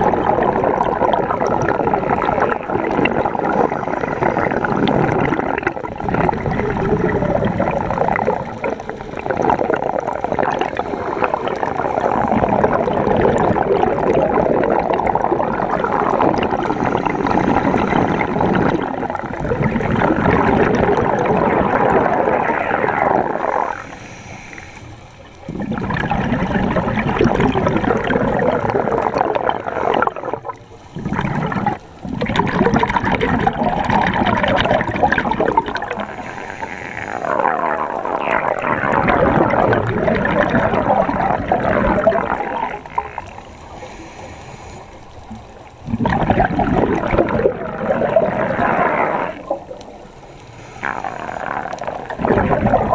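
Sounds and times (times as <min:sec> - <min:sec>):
underwater bubbling water: 0:00.0 - 0:52.9.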